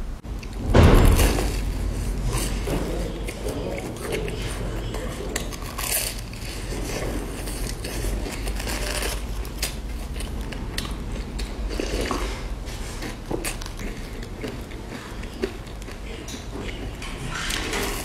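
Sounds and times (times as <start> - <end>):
steady low hum: 0.0 - 18.0
crunchy chewing: 0.4 - 18.0.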